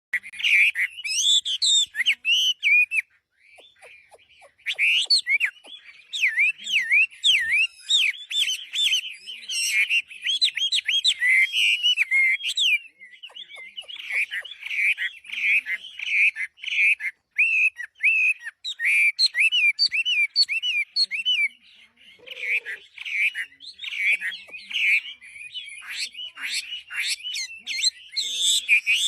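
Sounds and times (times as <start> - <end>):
bird singing whistled notes: 0.2 - 29.0.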